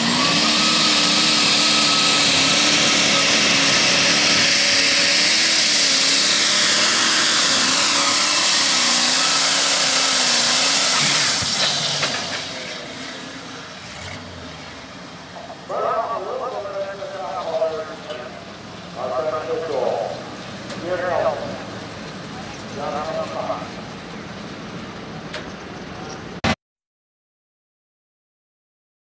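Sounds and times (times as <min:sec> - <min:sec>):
tractor engine running flat out: 0:00.0 - 0:26.6.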